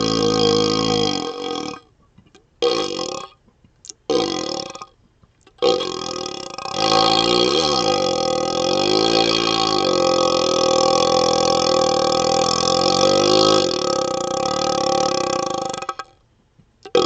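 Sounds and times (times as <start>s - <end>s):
burp through hollow tube: 0.0s - 16.2s.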